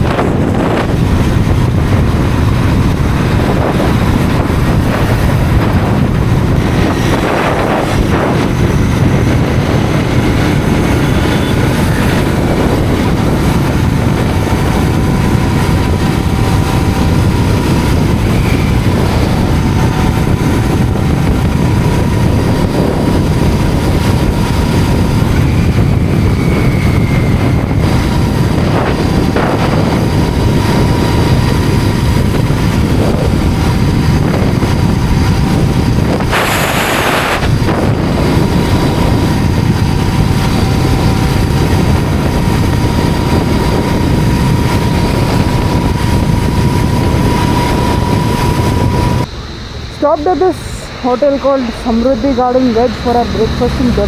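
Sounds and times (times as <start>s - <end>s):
motorcycle engine running: 0.0s - 54.0s
wind rush: 0.0s - 54.0s.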